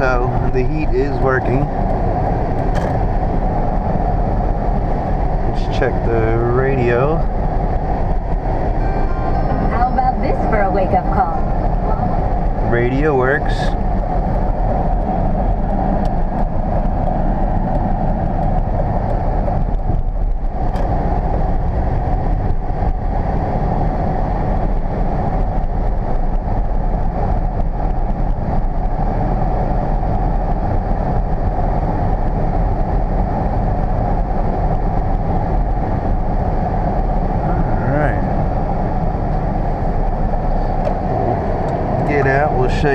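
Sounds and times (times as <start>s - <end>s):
car engine in cabin: 0.0s - 42.9s
road noise: 0.0s - 42.9s.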